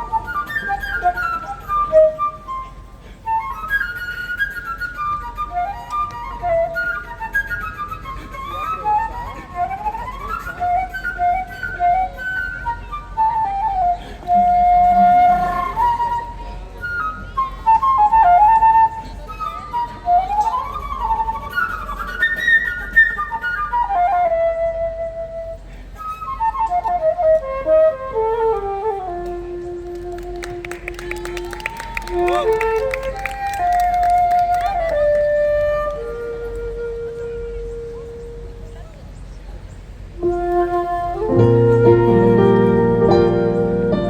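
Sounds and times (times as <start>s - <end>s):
flute melody: 0.0s - 39.1s, 40.1s - 44.0s.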